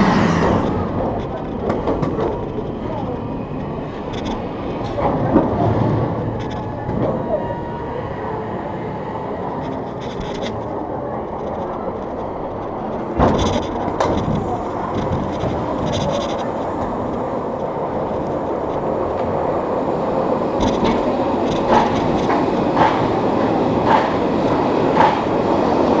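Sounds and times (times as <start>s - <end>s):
coaster wheels rumbling on track: 0.0s - 26.0s.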